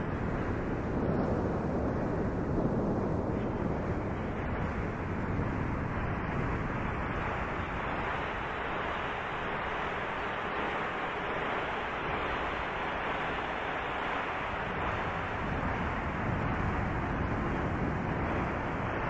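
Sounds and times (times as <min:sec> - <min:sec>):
muffled wind: 0:00.0 - 0:19.0
rain: 0:00.0 - 0:19.0.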